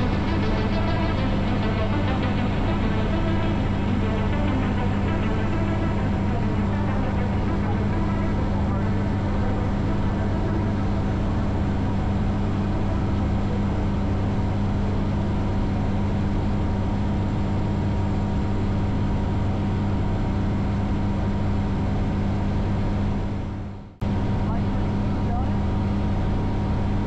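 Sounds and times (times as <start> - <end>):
light aircraft engine hum: 0.0 - 27.0.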